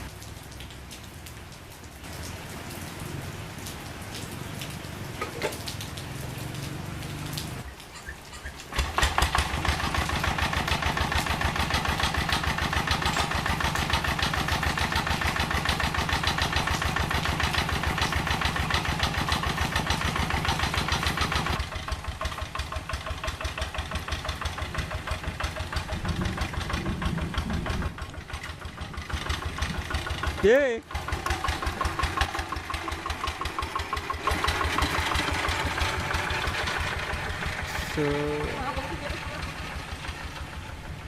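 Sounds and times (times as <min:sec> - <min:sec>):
diesel engine chugging: 0:07.6 - 0:41.0.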